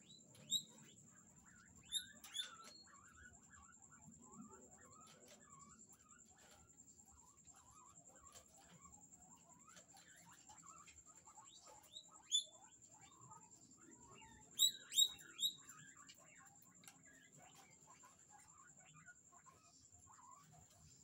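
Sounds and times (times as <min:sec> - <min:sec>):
faint small chirps: 0:00.0 - 0:21.0
guinea pig squeaking: 0:00.0 - 0:21.0.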